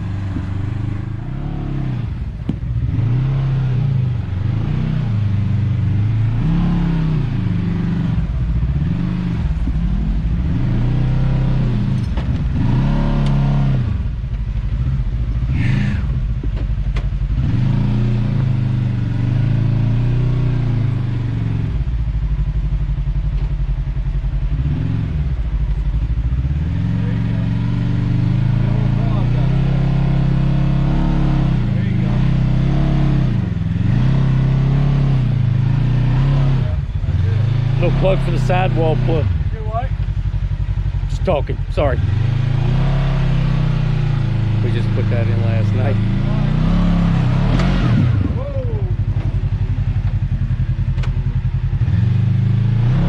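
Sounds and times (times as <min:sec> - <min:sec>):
utility vehicle engine revving: 0:00.0 - 0:53.0.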